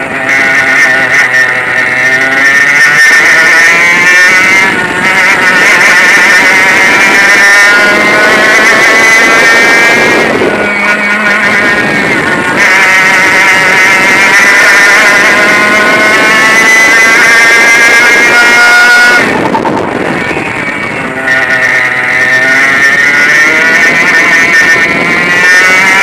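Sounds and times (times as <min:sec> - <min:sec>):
kart engine accelerating: 0:00.0 - 0:26.0.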